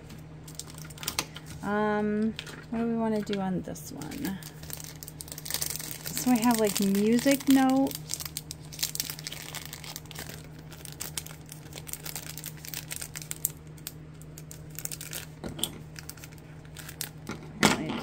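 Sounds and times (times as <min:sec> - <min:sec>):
plastic packaging crinkling: 0:00.5 - 0:01.5, 0:02.4 - 0:17.5.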